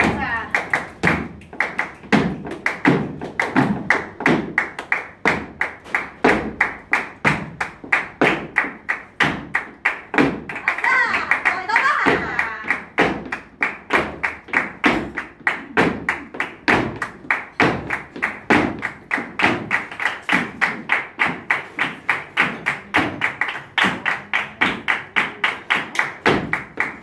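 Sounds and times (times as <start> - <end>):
heeled shoes stamping: 0.0 - 23.2
hands clapping: 0.0 - 27.0.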